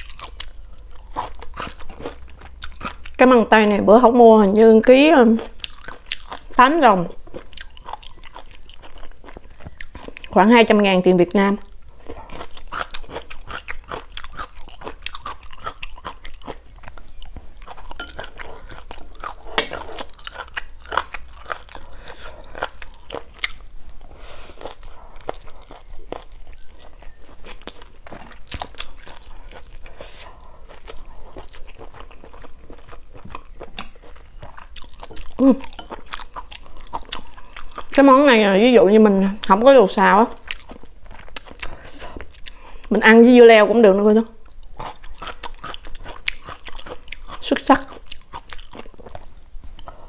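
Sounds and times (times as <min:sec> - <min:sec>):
person chewing crunchy food: 0:00.0 - 0:03.2, 0:05.2 - 0:10.5, 0:11.6 - 0:38.2, 0:40.2 - 0:43.0, 0:44.4 - 0:50.0.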